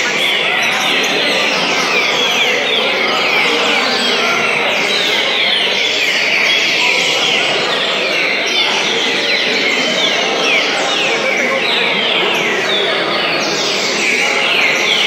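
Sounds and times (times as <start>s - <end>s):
caged songbirds singing: 0.0s - 15.0s.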